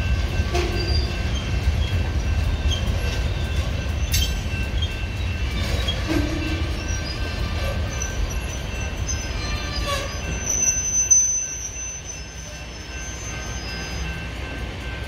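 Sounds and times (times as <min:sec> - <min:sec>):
freight cars rumbling on rails: 0:00.0 - 0:15.0
high wheel squeal: 0:00.4 - 0:14.3.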